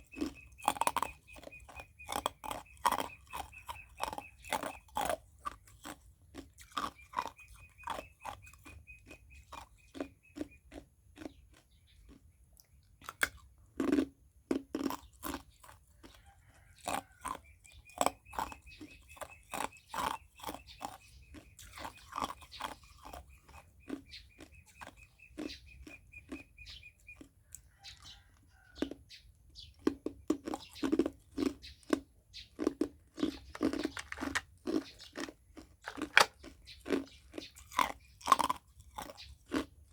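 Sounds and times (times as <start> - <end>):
person crunching ice cubes: 0.0 - 12.3, 13.0 - 25.9, 29.8 - 39.9.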